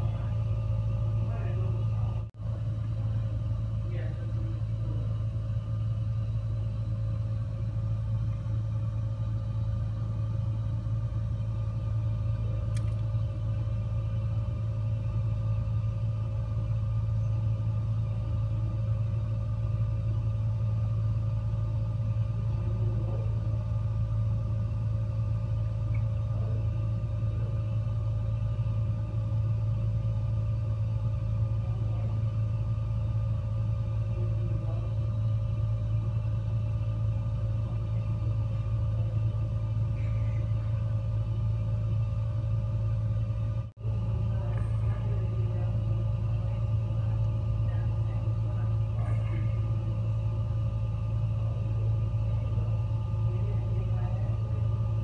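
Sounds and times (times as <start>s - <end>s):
faint even hum: 0.0s - 55.0s
gas fireplace rumble: 0.0s - 55.0s.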